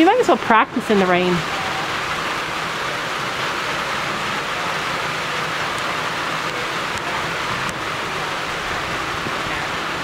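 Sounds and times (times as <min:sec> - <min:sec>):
pouring rain: 0:00.0 - 0:10.0.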